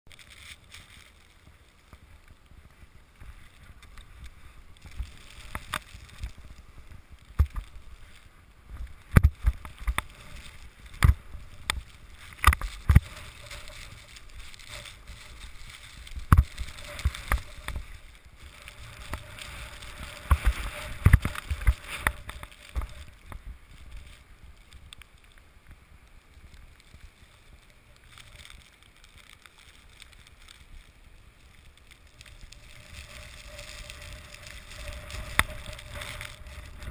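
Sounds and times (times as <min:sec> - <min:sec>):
skis hissing through powder snow: 0:00.1 - 0:36.9.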